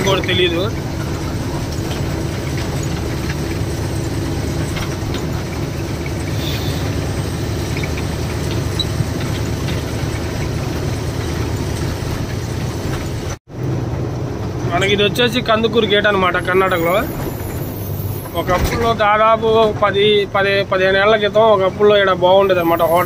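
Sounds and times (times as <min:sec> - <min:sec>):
truck diesel engine running: 0:00.0 - 0:23.0
tyre and road noise: 0:00.0 - 0:23.0.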